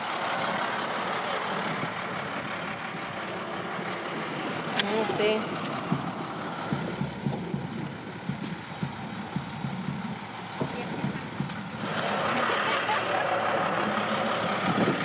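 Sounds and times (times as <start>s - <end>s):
broad rushing noise: 0.0s - 15.0s
vehicle engine idling: 0.0s - 15.0s.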